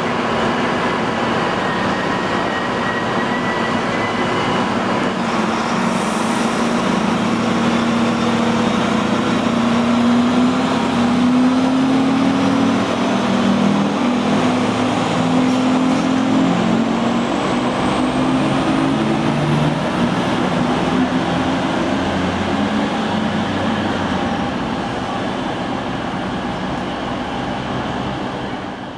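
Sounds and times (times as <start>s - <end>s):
railcar diesel engine pulling away: 0.0s - 28.9s
train rolling rumble: 0.0s - 28.9s.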